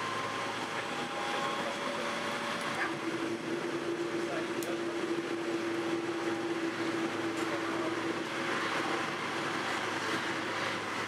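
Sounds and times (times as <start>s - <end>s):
tram drive hum: 0.0s - 11.0s
tram wheels on rails: 0.0s - 11.0s.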